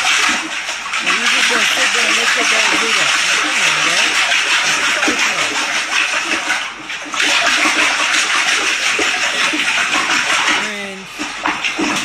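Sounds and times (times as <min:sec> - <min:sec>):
water rushing in toilet bowl: 0:00.0 - 0:12.0.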